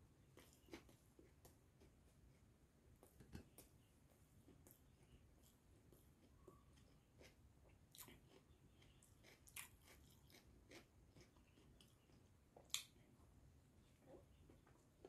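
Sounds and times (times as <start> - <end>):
person chewing food: 0.2 - 15.0.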